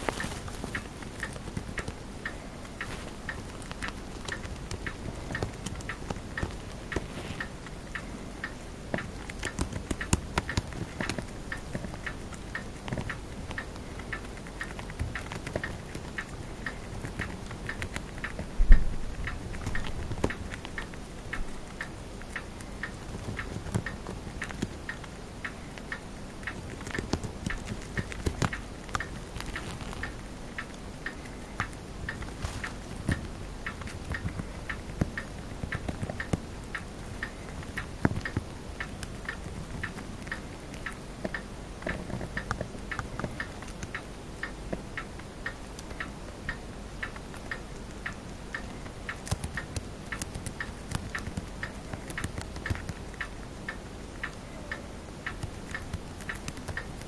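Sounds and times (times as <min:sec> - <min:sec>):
hamster chewing leaf: 0:00.0 - 0:57.0.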